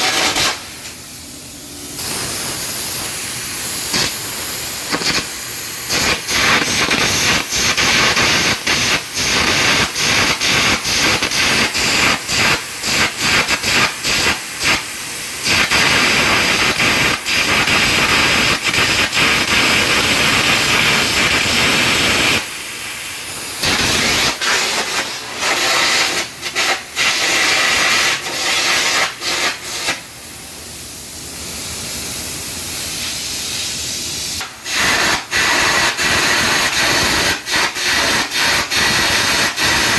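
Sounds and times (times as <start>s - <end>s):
harsh hiss of air arc gouging: 0.0s - 1.2s, 1.8s - 30.2s, 31.1s - 39.9s.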